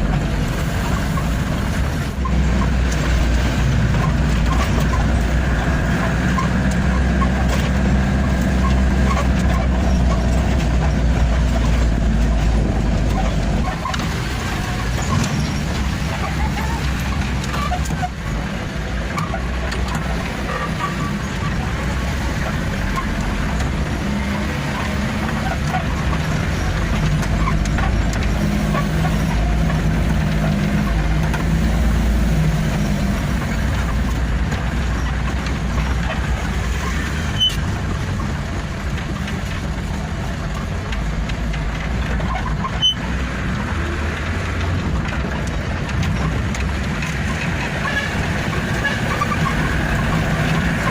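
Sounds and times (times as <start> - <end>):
truck engine rumbling: 0.0 - 50.9.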